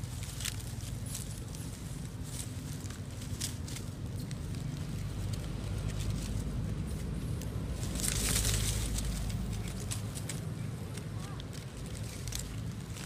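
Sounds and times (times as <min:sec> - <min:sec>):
dry leaves rustling and crackling: 0:00.0 - 0:13.0.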